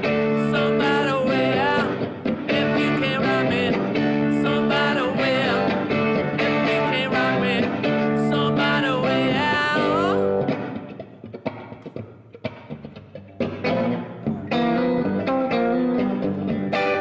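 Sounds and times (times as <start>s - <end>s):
electric guitar rock riff: 0.0s - 17.0s
quiet picked guitar notes: 0.0s - 17.0s.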